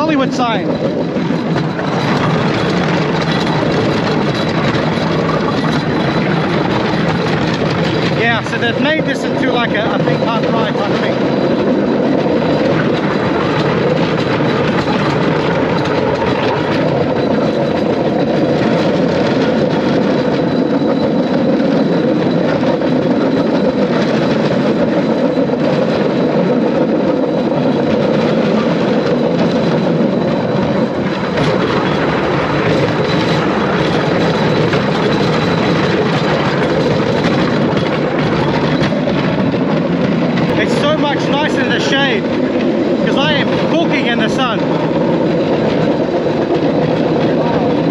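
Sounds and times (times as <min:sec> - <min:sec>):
clatter over rail joints: 0:00.0 - 0:47.9
small engine running: 0:00.0 - 0:47.9
wheels on rails: 0:00.0 - 0:47.9.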